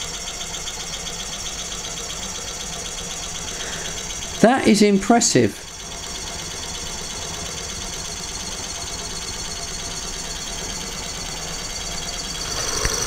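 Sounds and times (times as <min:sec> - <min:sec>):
small engine model running: 0:00.0 - 0:13.0.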